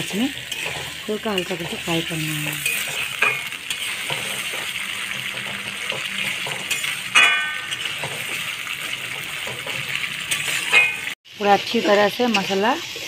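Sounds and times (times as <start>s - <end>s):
food sizzling in hot oil: 0.0s - 13.0s
spatula scraping pan: 0.0s - 13.0s.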